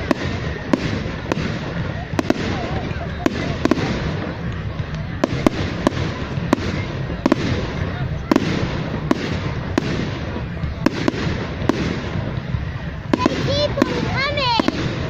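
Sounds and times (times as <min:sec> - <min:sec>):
fireworks crackling rumble: 0:00.0 - 0:15.0
fireworks cracks: 0:00.0 - 0:15.0.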